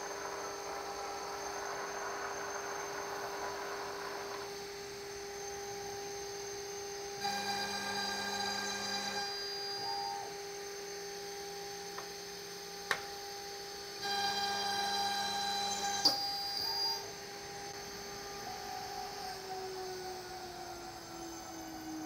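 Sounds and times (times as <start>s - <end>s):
router spindle whining: 0.0s - 22.0s.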